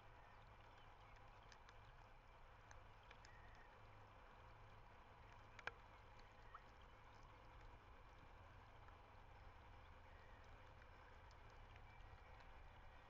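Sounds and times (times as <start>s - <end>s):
faint ticks: 0.3s - 13.0s.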